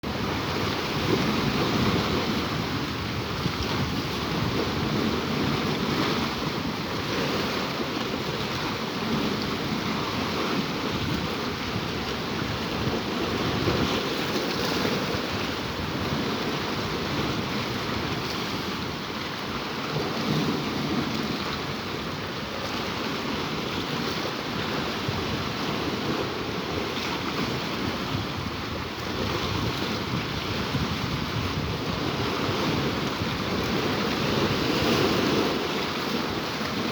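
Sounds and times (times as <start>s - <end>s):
sea waves washing over rocks: 0.0s - 36.9s.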